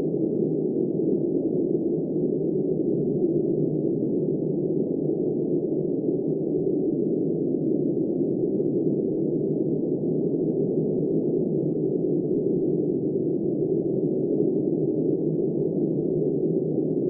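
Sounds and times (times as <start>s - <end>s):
muffled blizzard wind: 0.0s - 17.0s.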